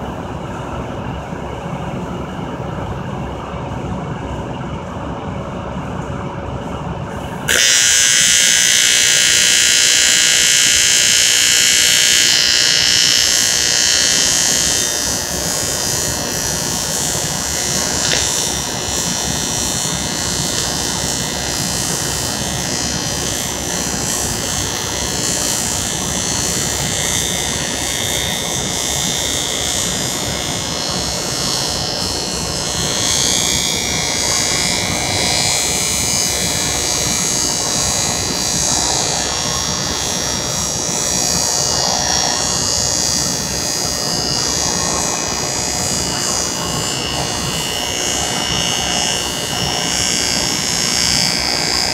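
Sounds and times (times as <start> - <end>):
welding arc buzzing: 7.3 - 51.9.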